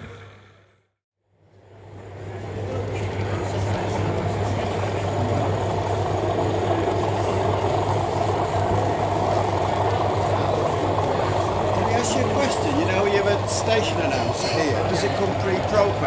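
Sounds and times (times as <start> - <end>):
diesel engine through small speaker: 2.6 - 16.0.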